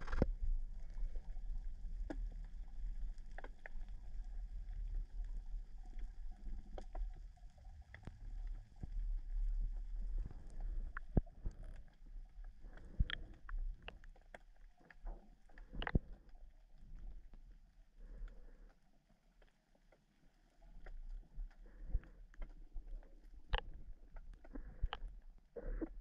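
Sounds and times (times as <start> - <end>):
underwater water rumble: 0.0 - 26.0.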